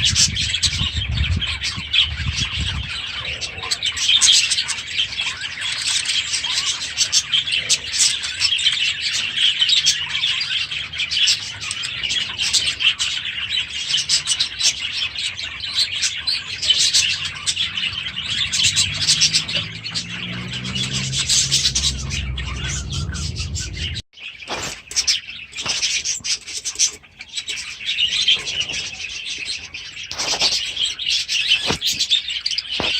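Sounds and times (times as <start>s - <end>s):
budgerigars chattering and chirping: 0.0s - 32.9s.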